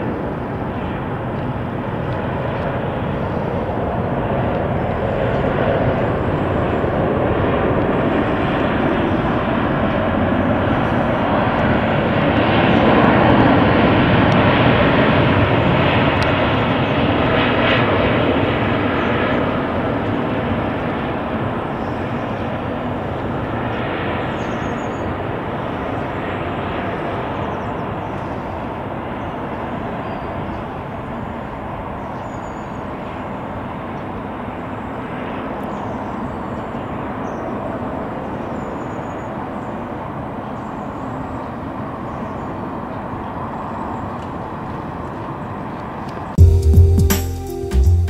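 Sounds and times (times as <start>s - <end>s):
jet airliner passing overhead: 0.0s - 46.4s.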